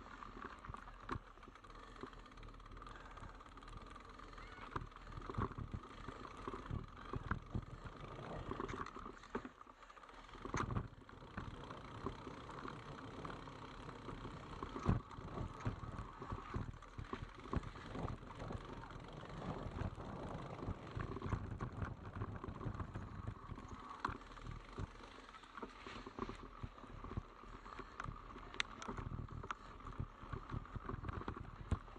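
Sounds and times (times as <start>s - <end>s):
bike knocks and rattles: 0.4s - 9.5s, 10.4s - 31.9s.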